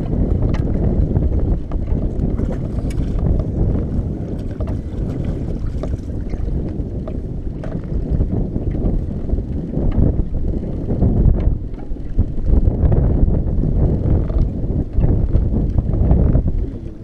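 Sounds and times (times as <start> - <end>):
water slapping boat hull: 0.0 - 17.0
wind buffeting microphone: 0.0 - 17.0.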